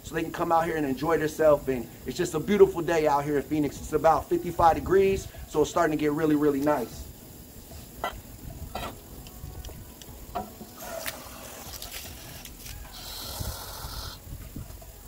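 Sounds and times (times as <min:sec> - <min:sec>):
hose spraying water: 0:01.1 - 0:14.9.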